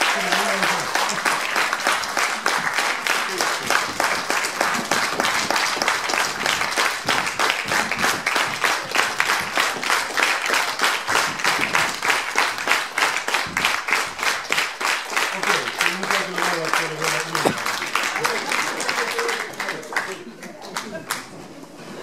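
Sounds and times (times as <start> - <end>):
audience clapping in time: 0.0 - 21.4.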